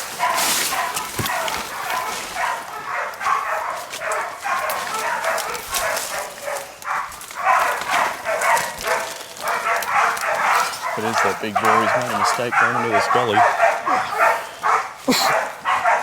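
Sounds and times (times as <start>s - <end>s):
dogs barking hard: 0.0s - 16.0s.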